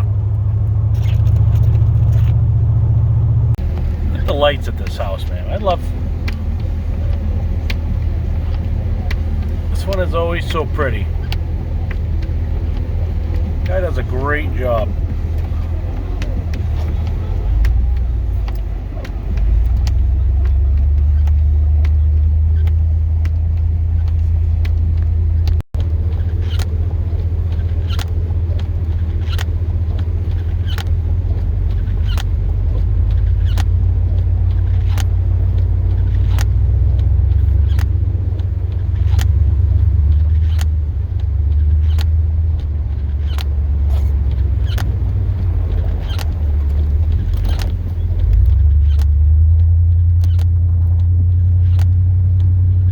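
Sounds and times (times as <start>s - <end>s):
truck engine and road rumble: 0.0s - 52.9s
regular clicking: 3.5s - 52.9s.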